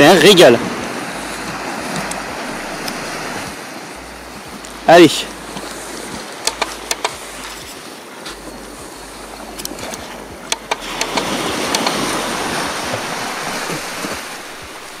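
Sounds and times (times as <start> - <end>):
small waves washing on sand: 0.0 - 15.0.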